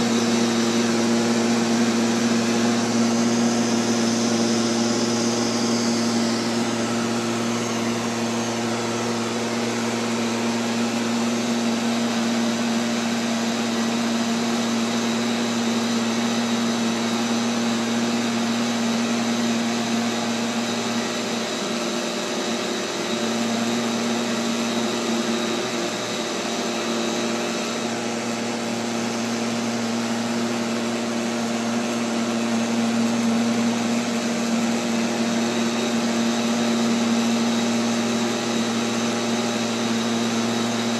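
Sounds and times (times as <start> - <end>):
robotic vacuum cleaner running: 0.0 - 40.9.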